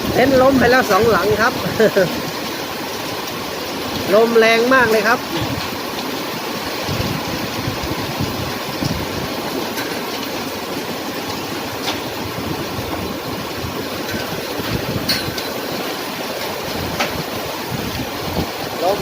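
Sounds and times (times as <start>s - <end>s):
storm wind on microphone: 0.0s - 19.0s.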